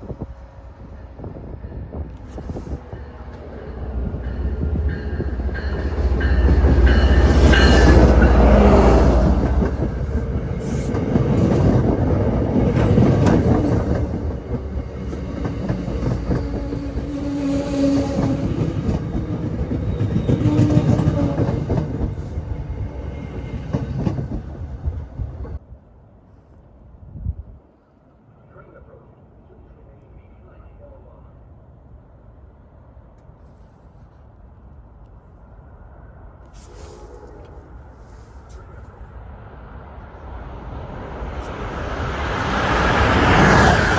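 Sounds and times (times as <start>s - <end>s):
train rumbling: 0.0s - 26.1s, 28.9s - 43.9s.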